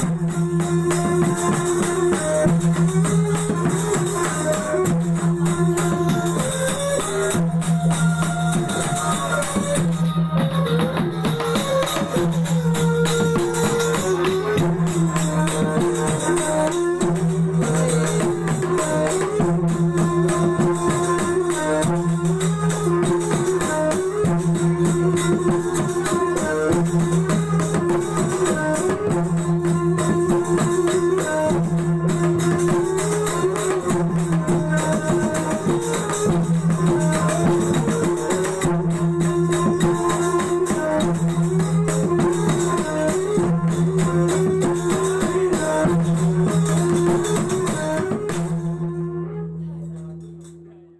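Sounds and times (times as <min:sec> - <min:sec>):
jingling small cymbals: 0:00.0 - 0:48.6
hand drums beating: 0:00.0 - 0:50.6.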